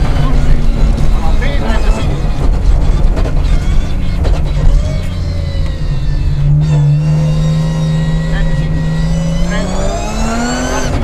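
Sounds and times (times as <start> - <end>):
rally car engine under load: 0.0 - 11.0.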